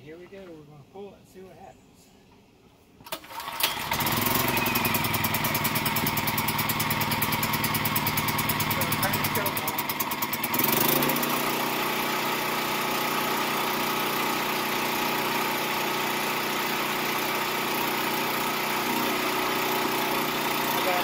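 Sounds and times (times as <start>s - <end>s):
portable generator engine running: 3.1s - 21.0s.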